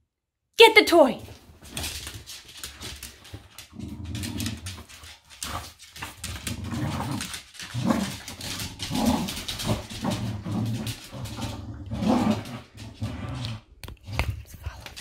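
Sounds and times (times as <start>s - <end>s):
paws scuffling on wooden floor: 1.2s - 15.0s
dogs play-growling: 1.6s - 14.4s.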